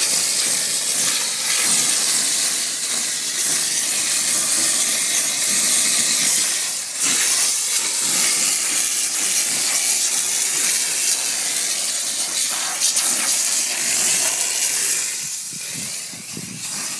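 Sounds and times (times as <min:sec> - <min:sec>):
hissing spray jet: 0:00.0 - 0:16.9.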